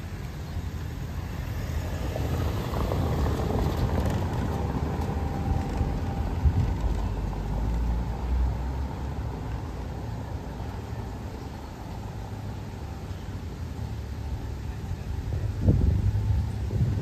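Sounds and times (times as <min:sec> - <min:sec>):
car driving on cobblestones: 0:00.0 - 0:17.0.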